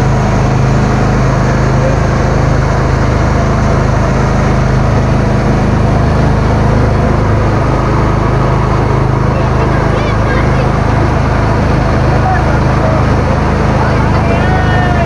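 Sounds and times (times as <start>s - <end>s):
boat motor humming: 0.0s - 15.0s
water noise: 0.0s - 15.0s.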